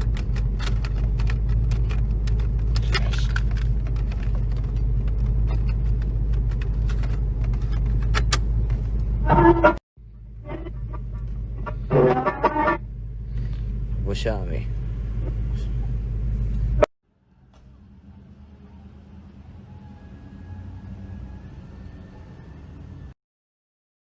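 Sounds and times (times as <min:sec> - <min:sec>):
car engine and road rumble: 0:00.0 - 0:23.2.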